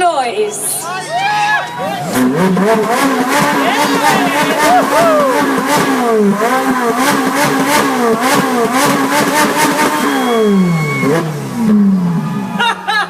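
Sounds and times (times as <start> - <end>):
car engine revving: 1.8 - 12.7.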